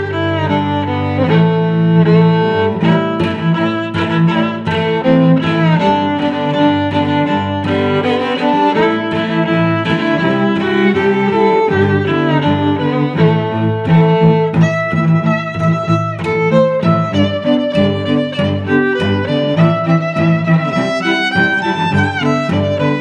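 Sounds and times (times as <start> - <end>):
instrumental background music: 0.0 - 23.0.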